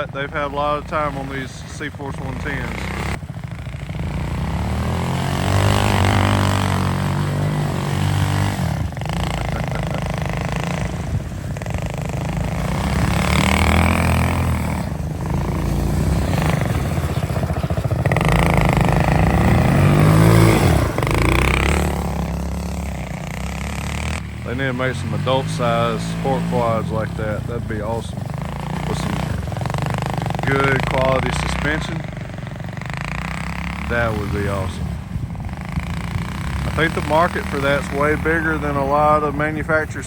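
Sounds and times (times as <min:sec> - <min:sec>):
small atv engines revving: 0:00.0 - 0:40.0.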